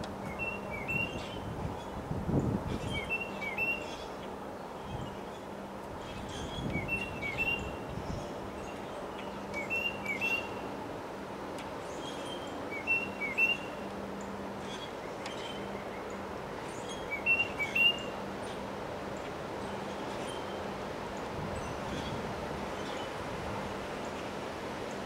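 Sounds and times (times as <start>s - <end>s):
songbird chirping: 0.2s - 10.8s, 11.6s - 23.2s.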